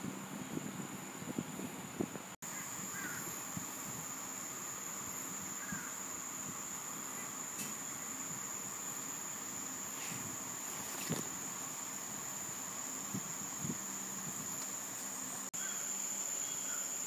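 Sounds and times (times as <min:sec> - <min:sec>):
faint background hiss: 0:00.0 - 0:17.0
high-pitched insect trill: 0:02.4 - 0:17.0.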